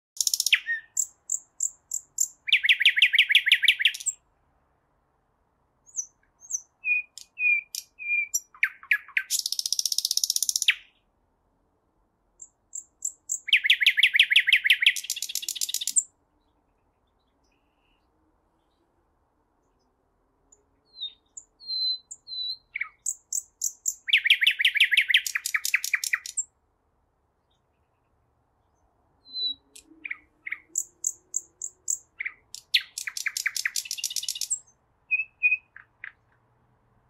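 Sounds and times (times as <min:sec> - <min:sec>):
nightingale singing: 0:00.2 - 0:04.3, 0:05.8 - 0:11.1, 0:12.4 - 0:19.0, 0:19.6 - 0:26.6, 0:27.4 - 0:36.4.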